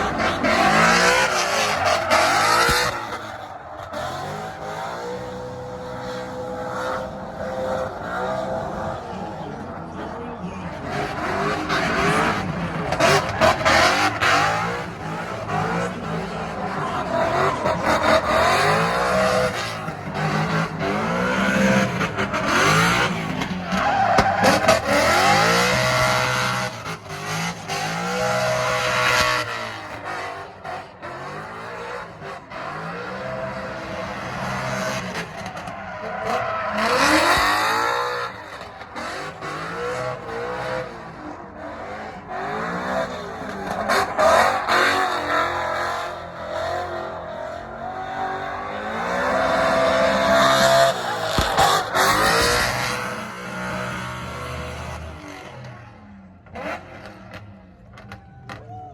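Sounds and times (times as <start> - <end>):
tire squeal: 0.0 - 55.9
car engines revving hard: 0.0 - 58.6.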